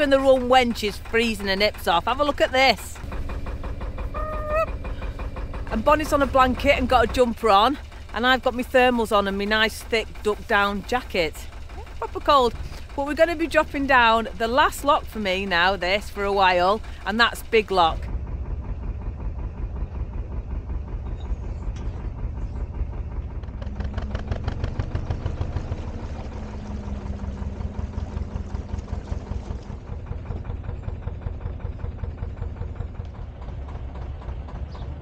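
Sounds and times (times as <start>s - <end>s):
boat engine chugging: 0.0s - 35.0s.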